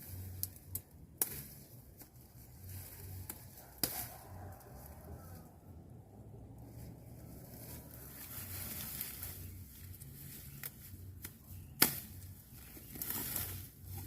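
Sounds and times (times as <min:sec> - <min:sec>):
crop stalks rustling: 0:00.0 - 0:14.0.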